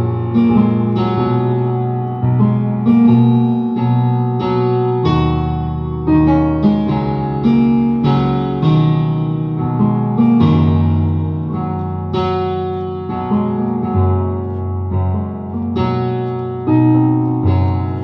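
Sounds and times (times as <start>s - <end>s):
digital keyboard playing chords: 0.0s - 18.0s.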